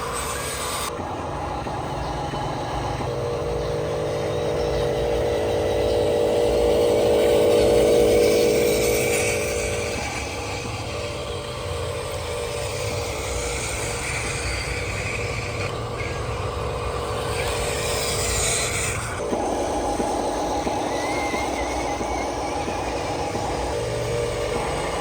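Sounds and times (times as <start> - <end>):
electric motor and gear whine: 0.0 - 25.0.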